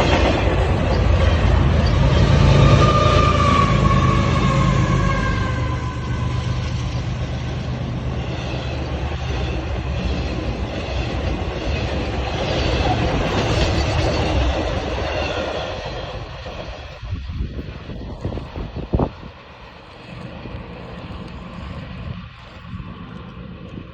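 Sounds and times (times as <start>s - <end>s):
freight train rolling past: 0.0s - 23.9s.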